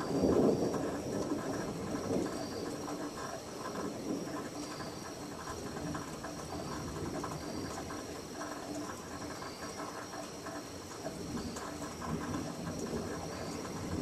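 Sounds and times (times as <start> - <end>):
high-pitched insect trill: 0.0 - 10.8, 11.4 - 14.0
frogs calling: 0.0 - 14.0.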